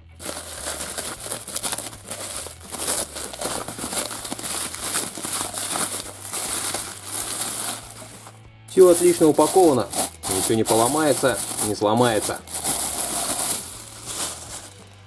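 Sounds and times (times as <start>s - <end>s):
bubble wrap and plastic crinkling: 0.0s - 15.0s.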